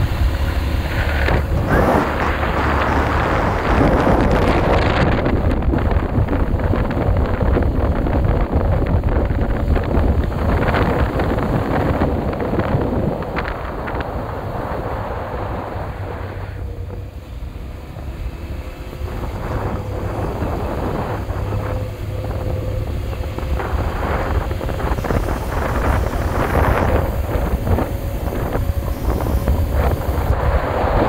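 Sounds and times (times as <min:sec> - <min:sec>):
vehicle rumbling on road: 0:00.0 - 0:31.0
wind buffeting microphone: 0:00.0 - 0:31.0.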